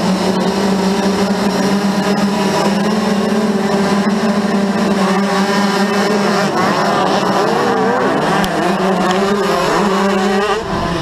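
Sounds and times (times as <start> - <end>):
motocross bikes revving and accelerating: 0.0 - 11.0.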